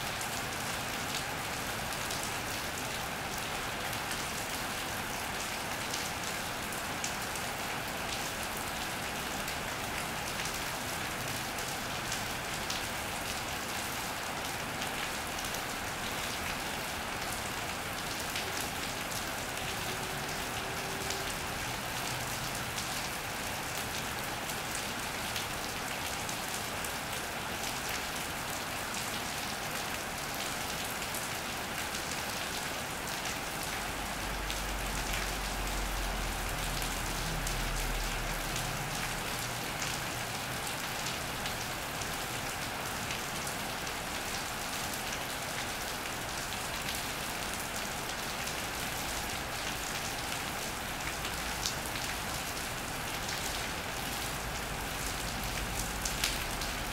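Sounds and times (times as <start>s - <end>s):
rain on an iron roof: 0.0s - 56.9s.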